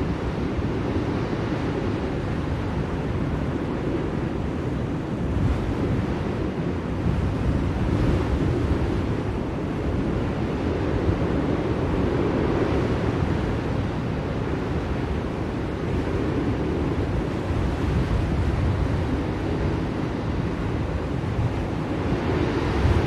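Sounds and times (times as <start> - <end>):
blizzard wind rushing: 0.0 - 23.0.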